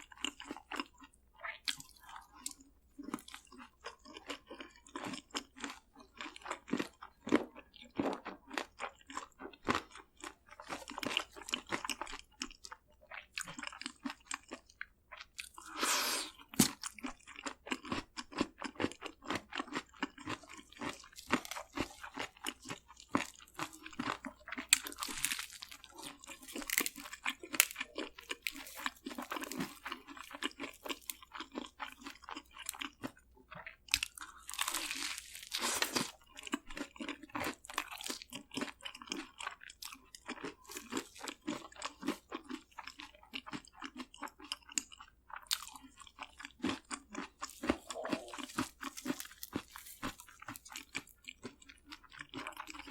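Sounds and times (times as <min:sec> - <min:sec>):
crunchy bites of fried food: 0:00.0 - 0:52.9
wet chewing: 0:00.0 - 0:52.9.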